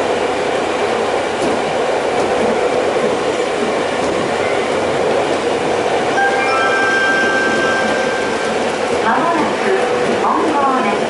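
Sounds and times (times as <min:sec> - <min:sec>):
train rumble from inside car: 0:00.0 - 0:11.0.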